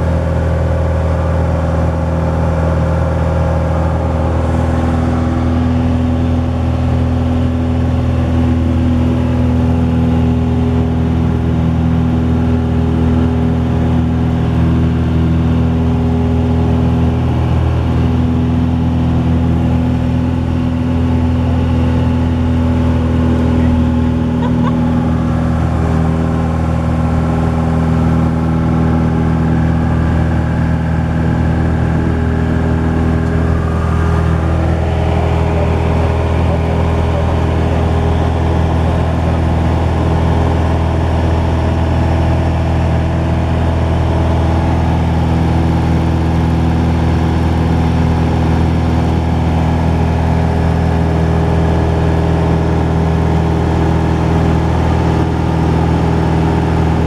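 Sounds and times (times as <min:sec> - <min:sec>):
airplane engine and propeller droning: 0:00.0 - 0:57.0.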